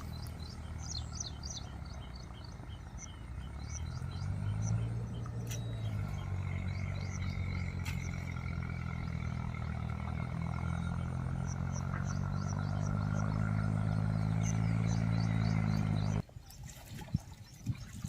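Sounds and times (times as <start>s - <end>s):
tractor diesel engine running: 0.0s - 16.2s.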